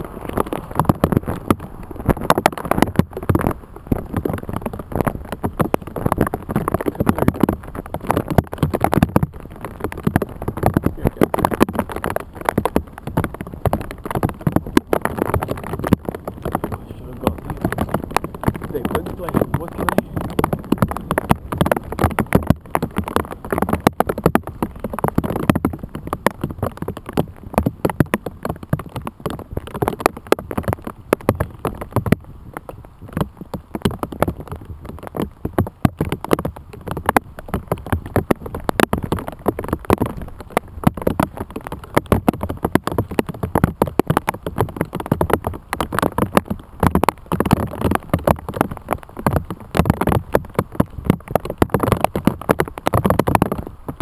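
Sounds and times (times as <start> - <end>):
rain pattering on plastic: 0.0 - 54.0.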